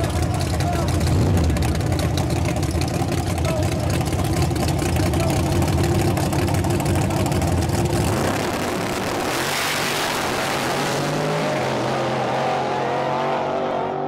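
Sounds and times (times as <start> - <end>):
drag car engine rumbling: 0.0 - 13.8.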